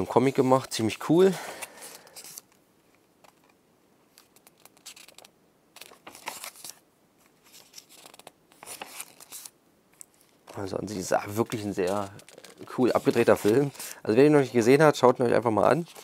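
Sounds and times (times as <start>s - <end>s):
pages turning: 1.3s - 14.0s, 15.1s - 16.0s.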